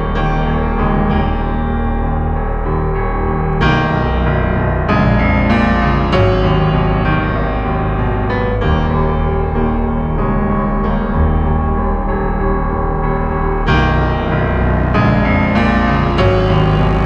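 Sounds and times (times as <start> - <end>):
keyboard chords: 0.0 - 17.0.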